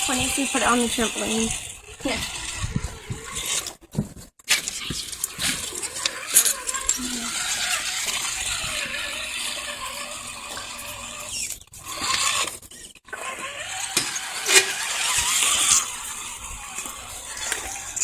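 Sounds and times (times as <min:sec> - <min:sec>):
electric motor and gears whirring: 0:00.0 - 0:18.0.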